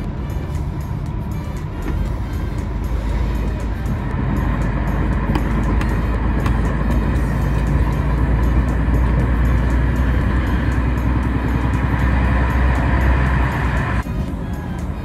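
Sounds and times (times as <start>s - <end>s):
music with steady beat: 0.0s - 15.0s
truck driving rumble: 0.0s - 15.0s.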